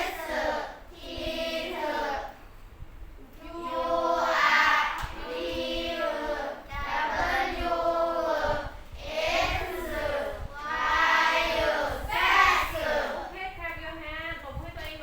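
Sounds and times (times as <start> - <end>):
children chanting in unison: 0.0 - 2.4, 3.4 - 13.3.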